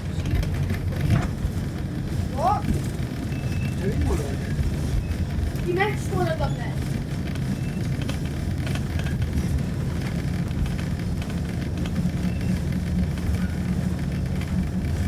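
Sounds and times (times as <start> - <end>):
diesel train engine drone: 0.0 - 15.0.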